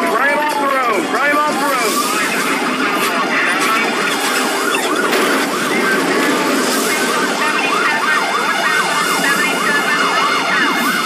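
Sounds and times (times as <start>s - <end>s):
police siren yelping: 0.0s - 11.0s
car engine and road noise: 0.8s - 11.0s.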